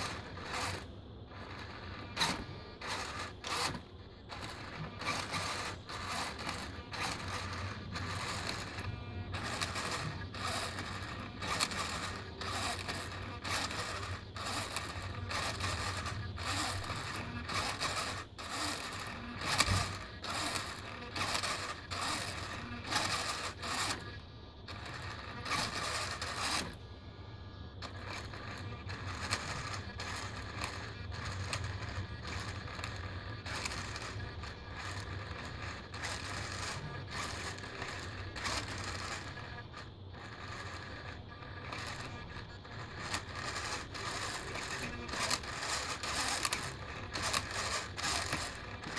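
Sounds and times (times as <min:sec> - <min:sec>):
servo clicking: 0:00.0 - 0:26.8, 0:27.8 - 0:48.9
steady low hum: 0:00.0 - 0:48.9.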